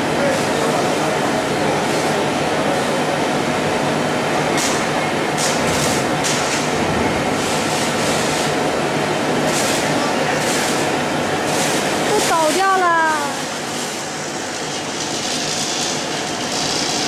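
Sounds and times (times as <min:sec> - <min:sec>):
packaging machine hum and clatter: 0:00.0 - 0:17.0.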